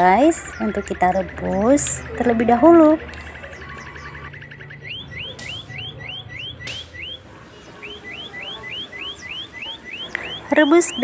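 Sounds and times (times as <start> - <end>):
electronic alarm siren: 0.0 - 11.0.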